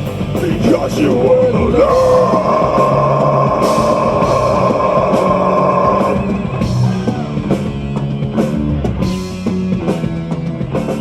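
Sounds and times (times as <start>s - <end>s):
heavy metal band playing: 0.0s - 11.0s.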